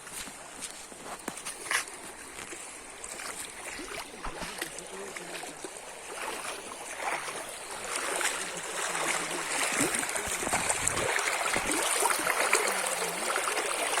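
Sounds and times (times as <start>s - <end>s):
stream flowing and trickling: 0.0s - 14.0s.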